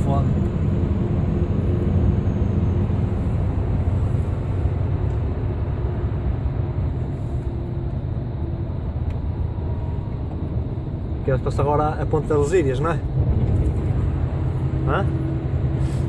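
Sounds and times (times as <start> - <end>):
truck engine and tyres drone: 0.0 - 16.0.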